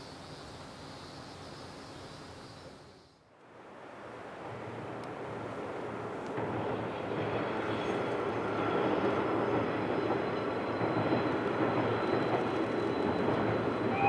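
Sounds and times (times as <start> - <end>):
diesel train crossing bridge: 0.0 - 14.0
high whine from train wheels: 0.0 - 14.0.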